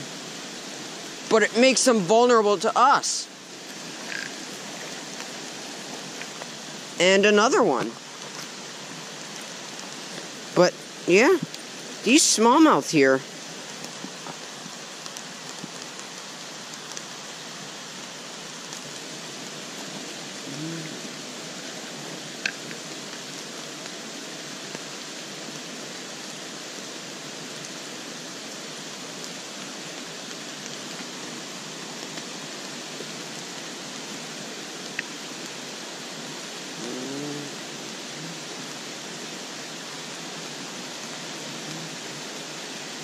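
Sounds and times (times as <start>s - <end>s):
rain hissing on a stream: 0.0s - 43.0s
water running over rocks: 0.0s - 43.0s.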